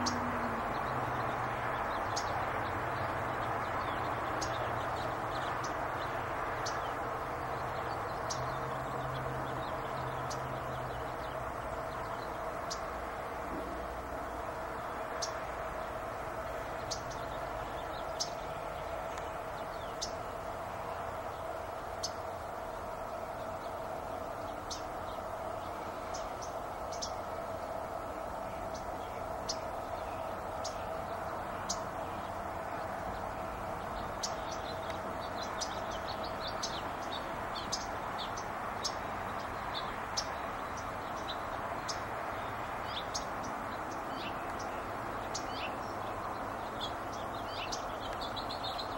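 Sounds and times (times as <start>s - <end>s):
small birds chirping: 0.0s - 48.9s
steady background hum: 0.0s - 48.9s.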